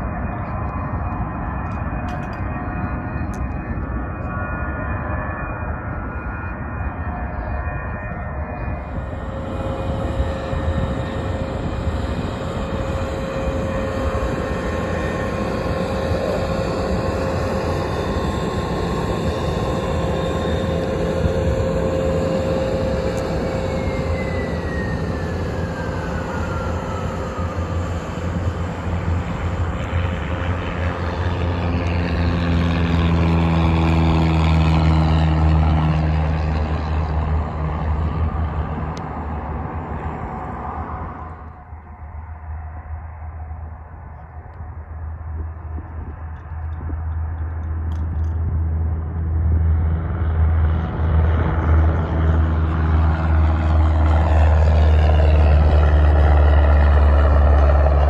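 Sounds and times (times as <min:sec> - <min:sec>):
aircraft engine running: 0:00.0 - 0:58.0
propeller airplane passing: 0:00.0 - 0:58.0.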